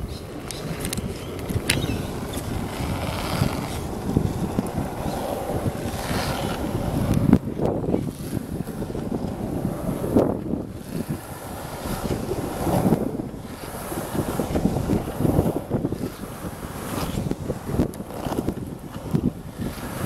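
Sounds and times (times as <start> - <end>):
skateboard wheels rolling on asphalt: 0.0 - 20.0
wind buffeting microphone: 0.0 - 20.0.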